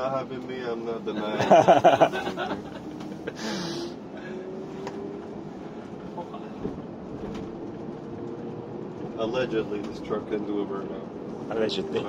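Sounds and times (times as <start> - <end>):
road and drivetrain noise: 0.0 - 12.0.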